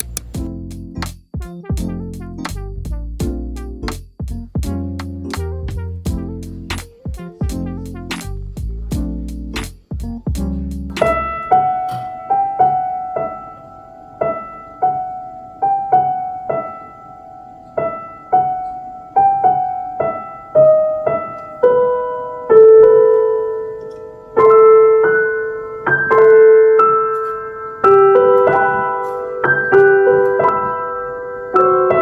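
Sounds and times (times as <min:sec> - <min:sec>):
piano chords: 0:00.0 - 0:32.0
slow piano melody: 0:00.0 - 0:32.0.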